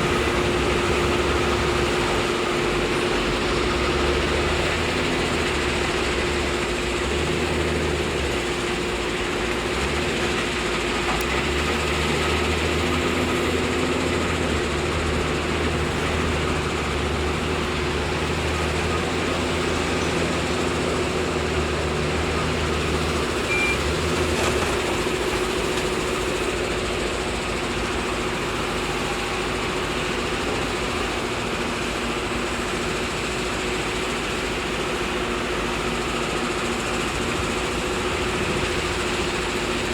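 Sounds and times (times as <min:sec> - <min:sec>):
diesel excavator engine running: 0:00.0 - 0:39.9.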